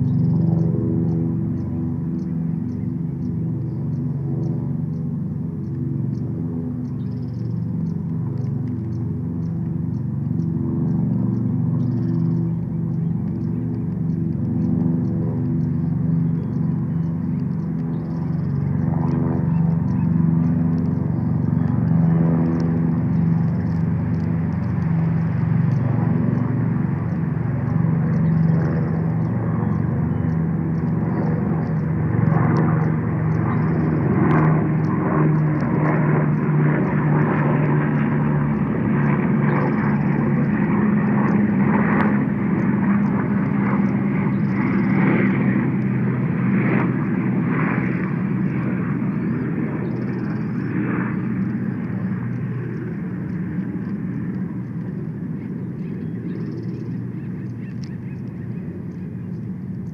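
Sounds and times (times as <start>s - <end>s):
aircraft engine droning: 0.0s - 59.9s.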